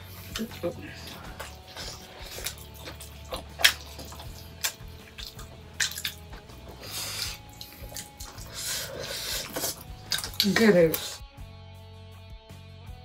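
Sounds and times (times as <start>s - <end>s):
wet chewing: 0.0s - 11.2s
sharp mouth clicks: 0.3s - 11.2s.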